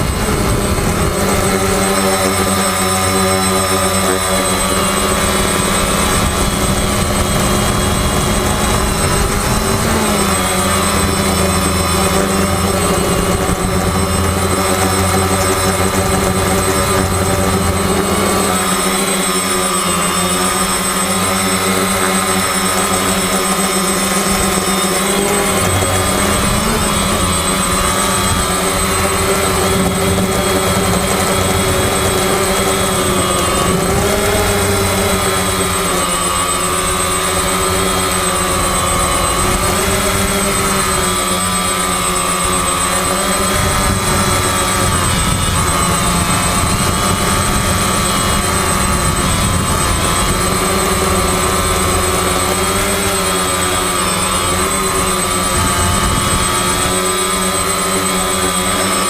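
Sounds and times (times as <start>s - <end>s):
constant high-pitched tone: 0.0s - 59.0s
quadcopter motors whining: 0.0s - 59.0s.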